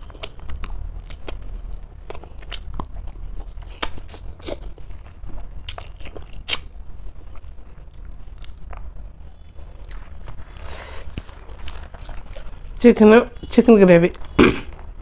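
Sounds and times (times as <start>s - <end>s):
low steady hum: 0.0s - 15.0s
person eating crisp bites: 0.0s - 15.0s.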